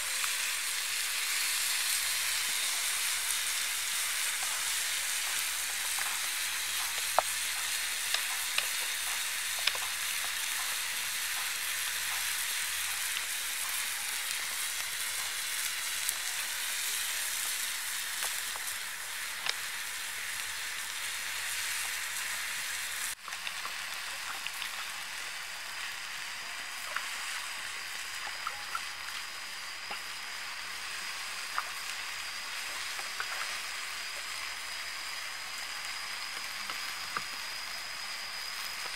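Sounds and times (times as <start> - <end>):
skewers sizzling on hot stone: 0.0 - 38.9.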